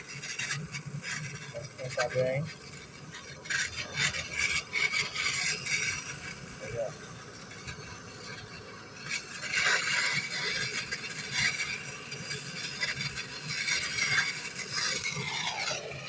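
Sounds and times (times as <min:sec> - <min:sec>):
torch flame hissing: 0:00.0 - 0:16.0.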